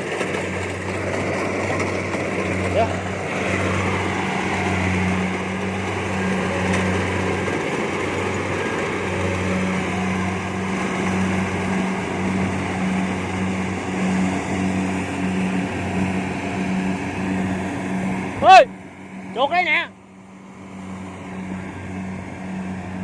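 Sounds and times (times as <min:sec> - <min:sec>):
combine harvester diesel engine: 0:00.0 - 0:23.0.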